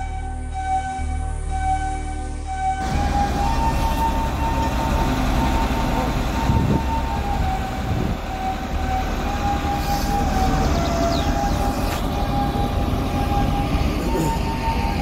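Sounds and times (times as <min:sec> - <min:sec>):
crane engine rumble: 0:00.0 - 0:15.0.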